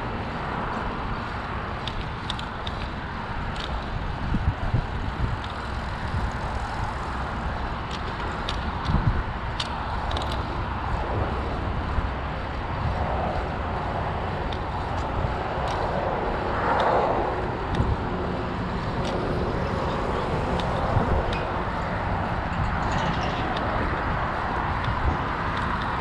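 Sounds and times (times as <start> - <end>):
bicycle tyre rumble: 0.0 - 26.0
wind noise: 0.0 - 26.0.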